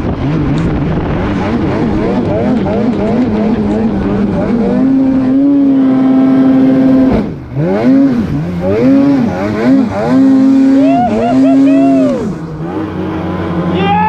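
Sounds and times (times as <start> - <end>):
snowmobile engines revving: 0.0 - 14.0.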